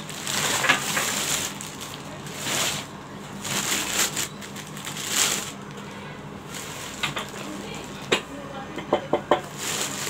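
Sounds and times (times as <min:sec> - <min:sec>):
plastic wrapping crinkling: 0:00.0 - 0:08.4, 0:09.4 - 0:10.0.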